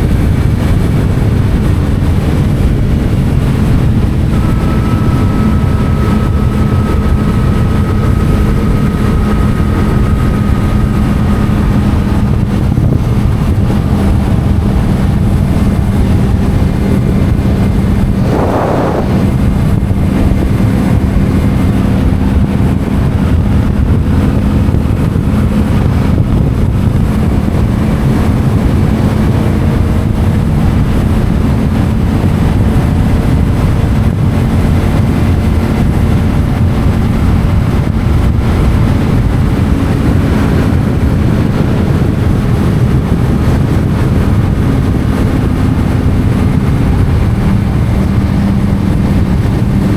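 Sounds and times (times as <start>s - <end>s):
motorcycle engine running: 0.0s - 49.9s
wind rush: 0.0s - 49.9s.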